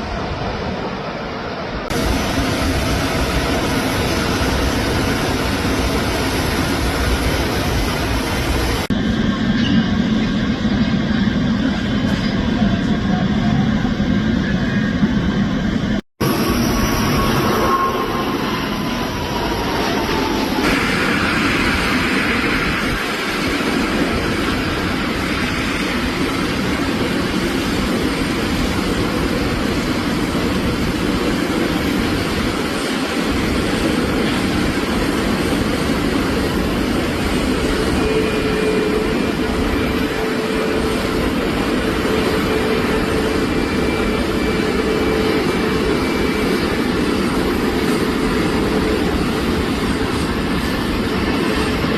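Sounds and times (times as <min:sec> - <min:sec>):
aircraft engine noise: 0:00.0 - 0:51.9
falling whine: 0:00.0 - 0:51.9.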